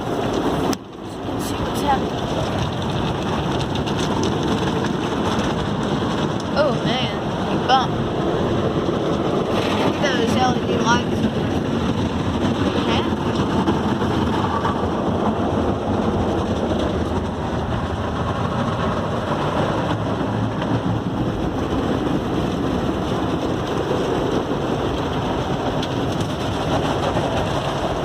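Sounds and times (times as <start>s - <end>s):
car wash equipment on body: 0.0s - 28.0s.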